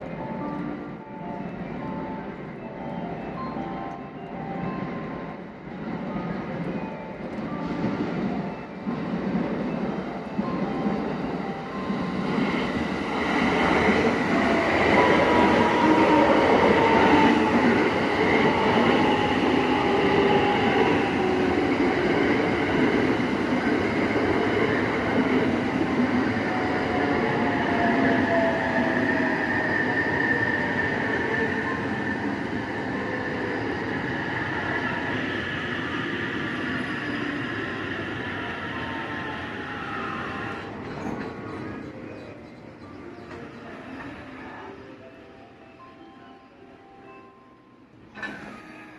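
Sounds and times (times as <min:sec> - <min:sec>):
train whining squeals: 0:06.2 - 0:45.3, 0:48.0 - 0:48.9.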